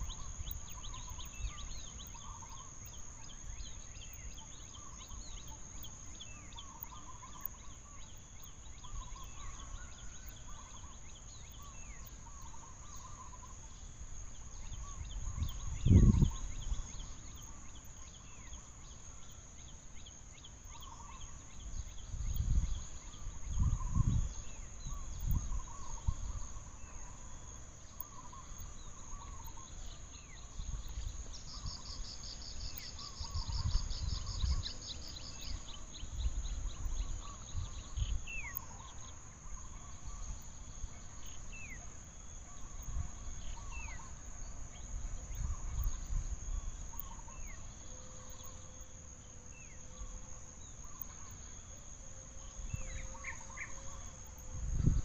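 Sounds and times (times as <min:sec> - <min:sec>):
high insect drone: 0:00.0 - 0:55.0
rapid insect trill: 0:00.0 - 0:55.0.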